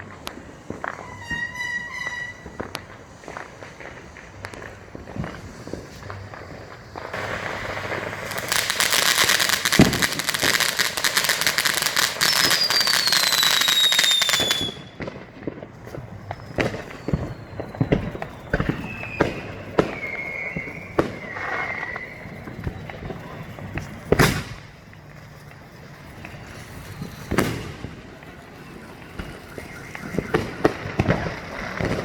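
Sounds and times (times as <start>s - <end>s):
falling firework whistle: 0.0s - 32.0s
firework bangs: 0.0s - 32.0s
fireworks crackling: 0.0s - 32.0s.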